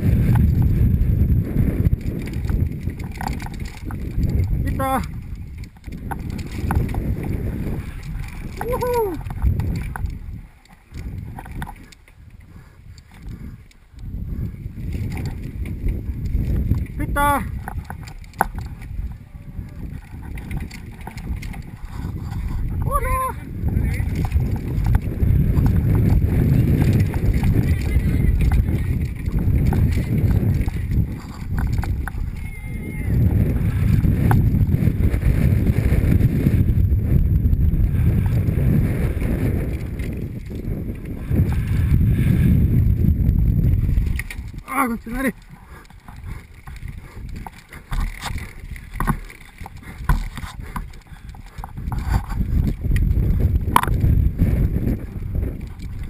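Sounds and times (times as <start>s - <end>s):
bike rattling clicks: 0.0s - 56.0s
wind rumble on microphone: 0.0s - 56.0s.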